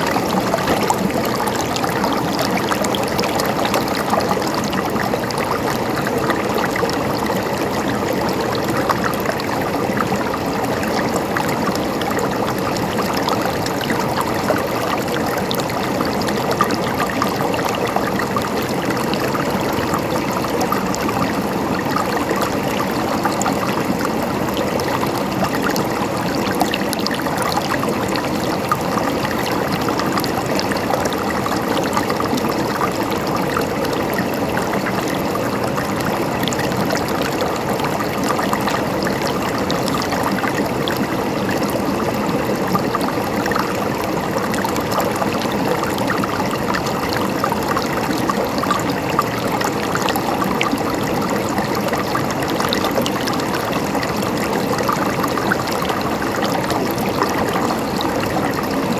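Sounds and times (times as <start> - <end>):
stream gurgling over rocks: 0.0 - 58.9.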